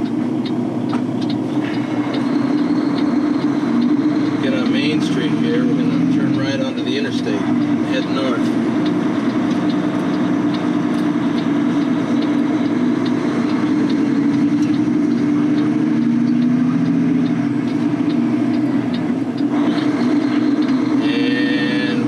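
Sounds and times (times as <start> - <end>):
diesel truck engine running: 0.0 - 22.0
light ticking: 0.0 - 22.0.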